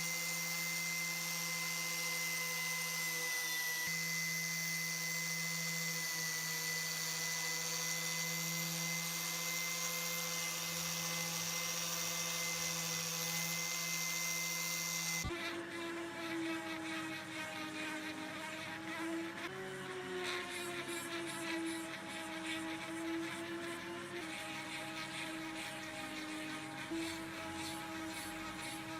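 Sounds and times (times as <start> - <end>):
power tool whining: 0.0 - 28.9.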